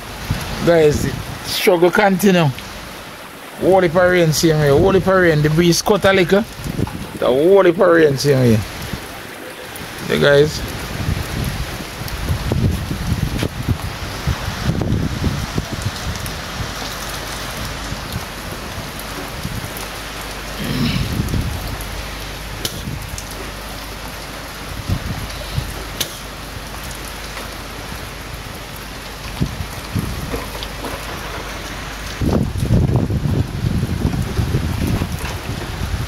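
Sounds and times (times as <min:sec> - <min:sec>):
heavy rain falling: 0:00.0 - 0:36.0
low rumbles: 0:00.0 - 0:36.0.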